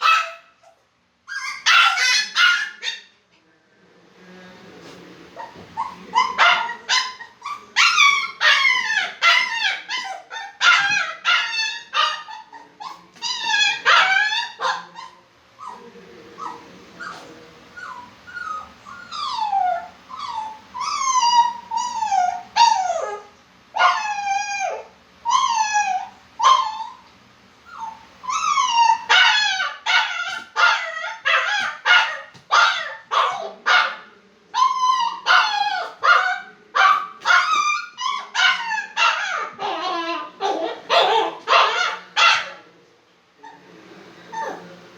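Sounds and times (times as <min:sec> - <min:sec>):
dog whining and yelping: 0:00.0 - 0:03.0, 0:05.4 - 0:15.8, 0:17.8 - 0:33.5, 0:34.6 - 0:42.5.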